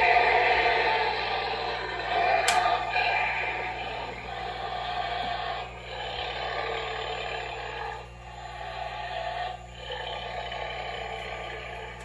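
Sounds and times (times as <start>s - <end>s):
growling monster noise: 0.0s - 12.0s.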